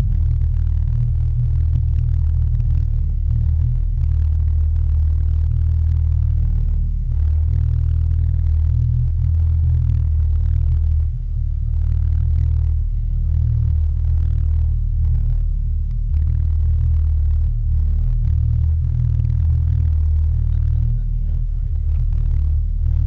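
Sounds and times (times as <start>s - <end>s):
low underwater rumble: 0.0s - 23.0s.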